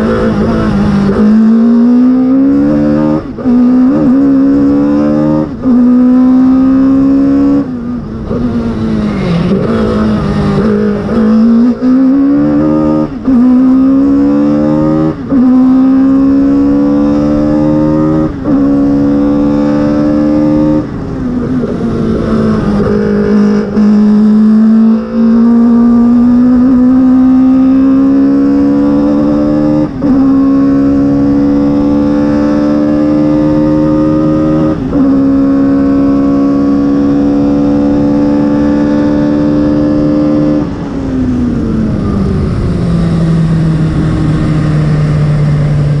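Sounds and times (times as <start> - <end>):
race car engine at full throttle: 0.0 - 46.0.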